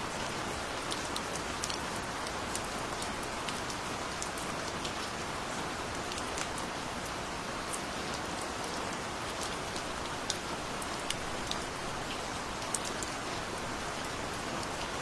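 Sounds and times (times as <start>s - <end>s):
gentle rain hiss: 0.0s - 15.0s
raindrops ticking on a surface: 0.1s - 15.0s.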